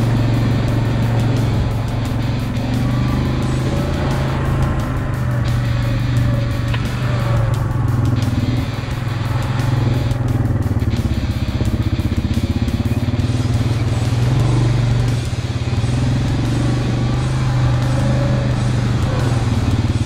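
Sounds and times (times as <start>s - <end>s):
atv engine running: 0.0s - 20.0s
background music: 0.0s - 20.0s.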